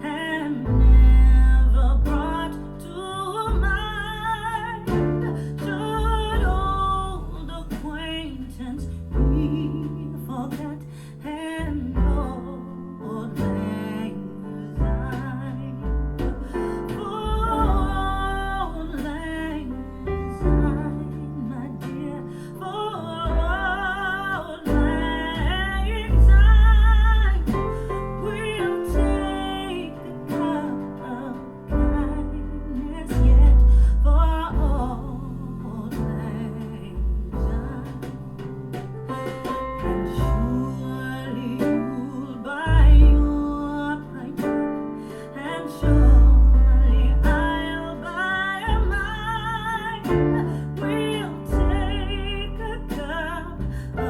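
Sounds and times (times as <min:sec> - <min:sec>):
deep bass: 0:00.0 - 0:54.0
piano: 0:00.0 - 0:54.0.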